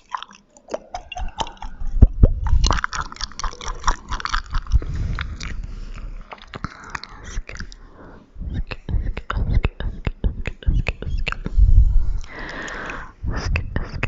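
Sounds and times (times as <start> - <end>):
wet mouth clicks and smacks: 0.0 - 7.9, 8.5 - 13.9.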